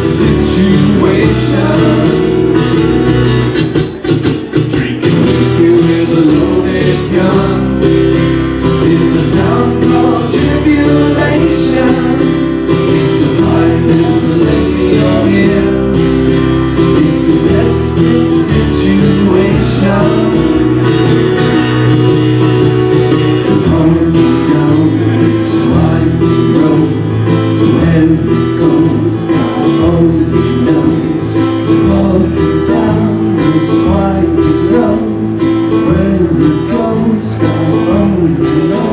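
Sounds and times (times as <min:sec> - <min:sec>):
acoustic guitars strumming: 0:00.0 - 0:38.9
keyboard chords: 0:00.0 - 0:38.9.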